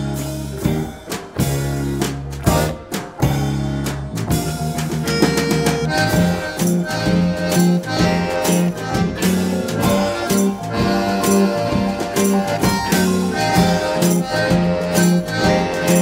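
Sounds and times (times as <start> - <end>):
folk-rock band playing: 0.0 - 16.0.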